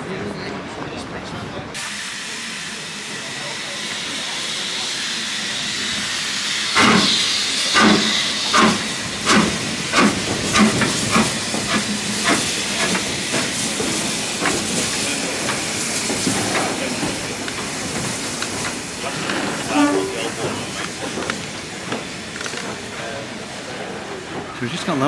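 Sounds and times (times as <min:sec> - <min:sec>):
steady hiss of steam: 0:01.7 - 0:25.0
steam locomotive exhaust chuffs: 0:01.8 - 0:24.6.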